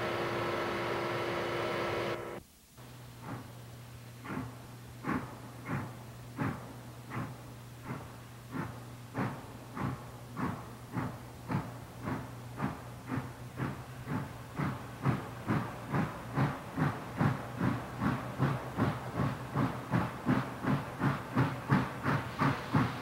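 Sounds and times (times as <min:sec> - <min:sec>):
steady low hum: 0:00.0 - 0:23.0
steam locomotive exhaust chuffing: 0:00.0 - 0:23.0.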